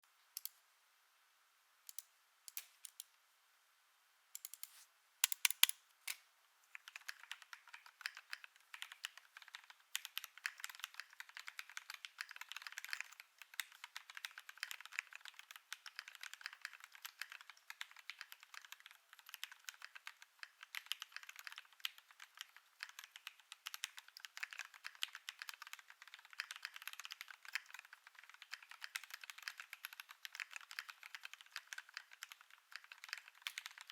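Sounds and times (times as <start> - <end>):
mechanical keyboard typing: 4.4 - 33.9.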